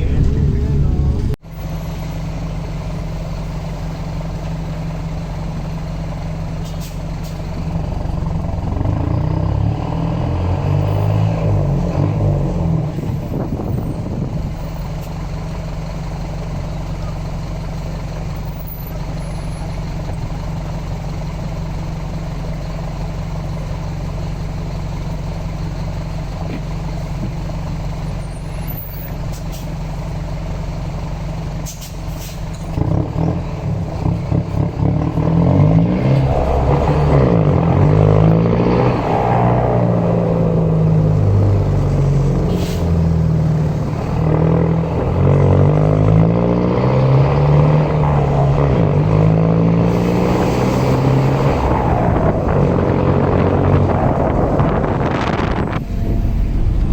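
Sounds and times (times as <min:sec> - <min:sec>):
bus diesel engine idling and revving: 0:00.0 - 0:56.9.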